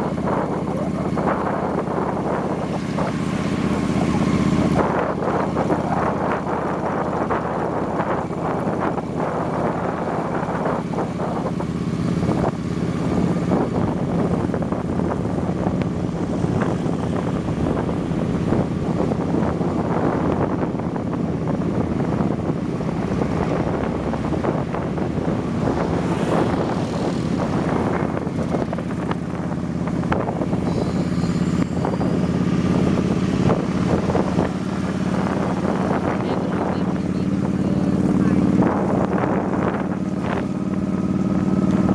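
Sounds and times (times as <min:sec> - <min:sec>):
motorbike engine hum: 0:00.0 - 0:41.9
wind buffeting microphone: 0:00.0 - 0:41.9.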